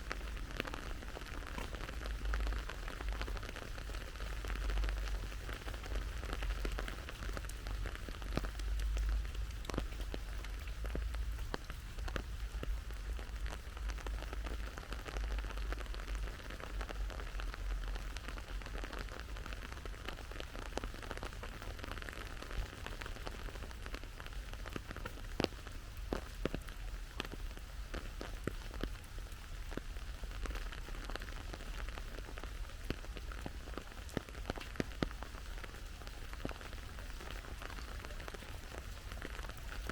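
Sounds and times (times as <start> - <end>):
rain hiss: 0.0 - 39.9
raindrops ticking close by: 0.0 - 39.9.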